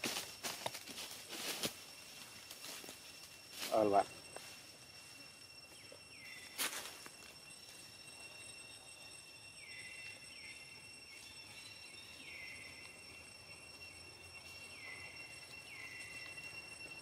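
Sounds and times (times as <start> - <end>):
insects high-pitched drone: 0.0 - 17.0.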